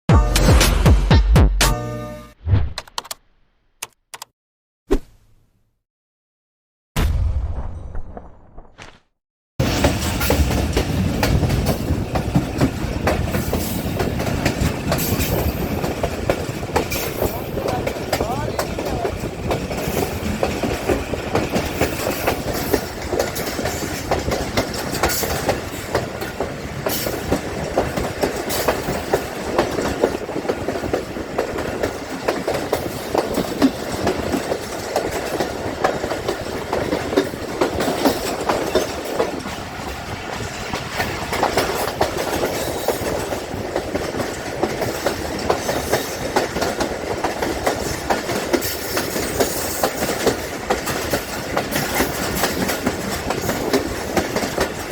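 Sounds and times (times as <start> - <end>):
train wheels clickety-clack: 9.6 - 54.9.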